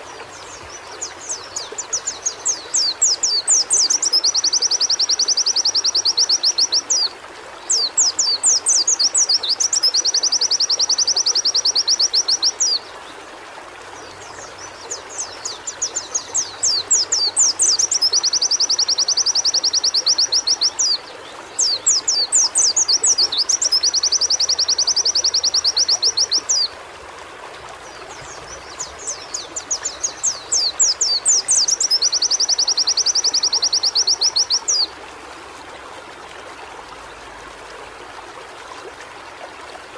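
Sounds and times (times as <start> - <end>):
bird singing trilling song: 0.0 - 12.8, 14.0 - 26.7, 27.9 - 34.9.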